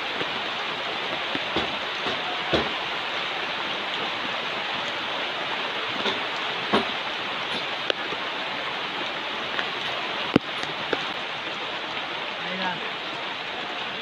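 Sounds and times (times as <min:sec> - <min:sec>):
light rain ticks: 0:00.0 - 0:02.8, 0:03.6 - 0:14.0
rain falling: 0:00.0 - 0:14.0.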